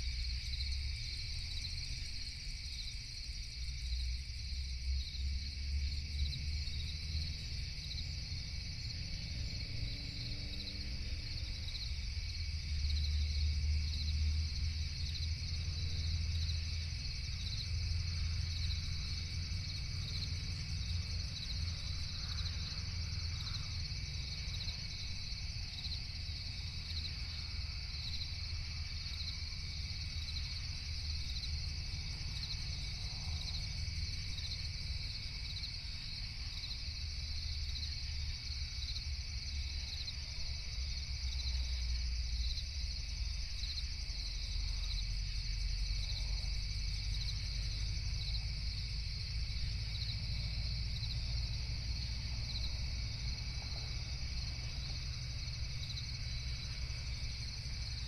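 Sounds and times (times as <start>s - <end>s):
constant low rumble: 0.0s - 58.0s
crickets chirping: 0.0s - 58.0s.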